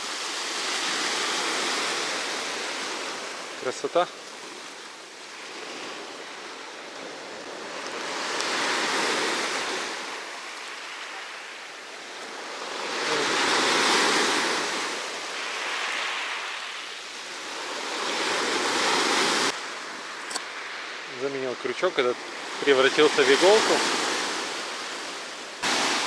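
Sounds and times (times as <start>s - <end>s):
surf washing on beach: 0.0s - 26.0s.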